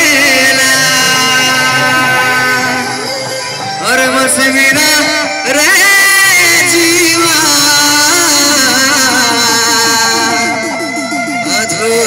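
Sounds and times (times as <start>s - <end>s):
electric guitars: 0.0s - 12.0s
live band devotional song: 0.0s - 12.0s.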